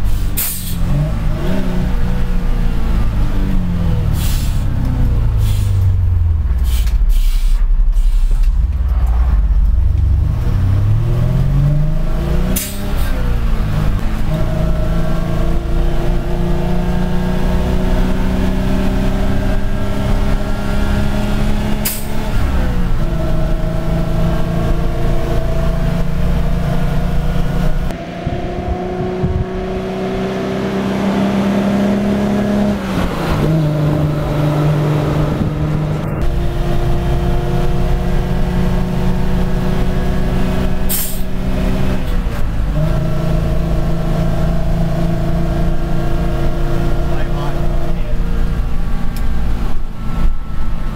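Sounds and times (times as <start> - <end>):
diesel lorry engine pulling: 0.0 - 50.9.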